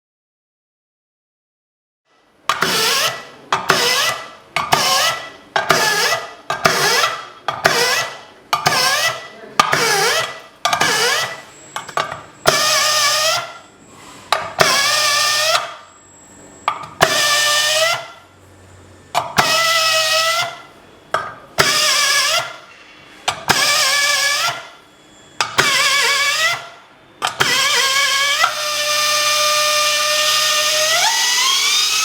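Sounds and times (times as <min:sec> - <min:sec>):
deburring tool grinding whine: 0:02.5 - 0:32.0.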